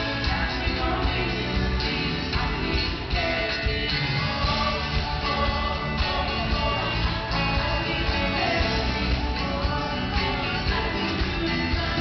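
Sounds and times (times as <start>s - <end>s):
live band music: 0.0s - 12.0s
strummed guitar: 0.0s - 12.0s.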